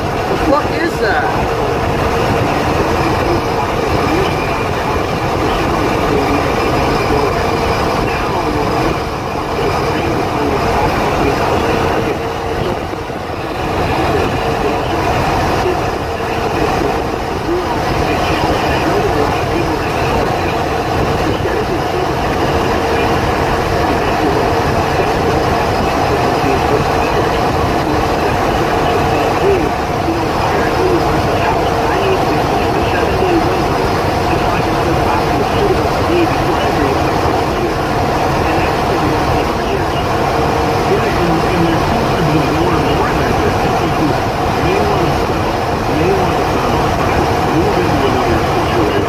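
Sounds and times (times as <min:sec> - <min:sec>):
steady hum: 0:00.0 - 0:49.0
truck engine and road drone: 0:00.0 - 0:49.0.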